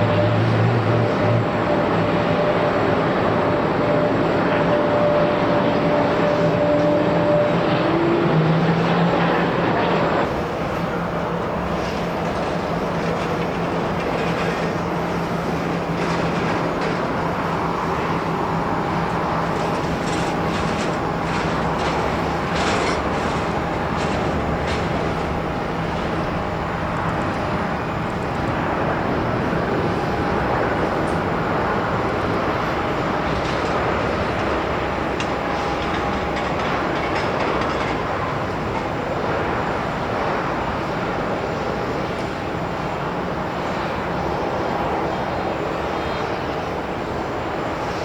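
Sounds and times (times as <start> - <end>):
jet airliner engine roar: 0.0 - 48.0
jet engine fan whine: 0.0 - 48.0.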